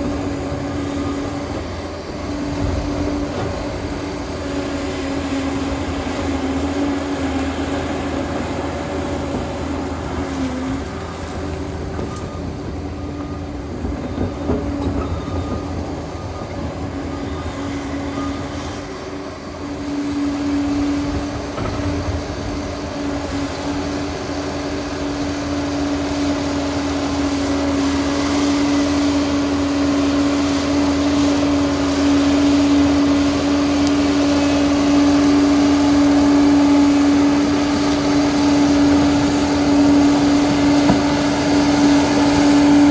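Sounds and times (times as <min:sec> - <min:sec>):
bulldozer engine drone: 0:00.0 - 0:42.9
strong steady hum: 0:00.0 - 0:42.9.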